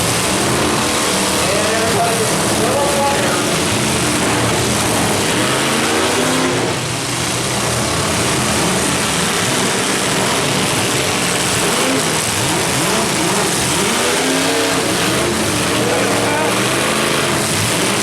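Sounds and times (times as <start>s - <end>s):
steady wash of noise: 0.0s - 18.0s
truck engines revving: 0.0s - 18.0s.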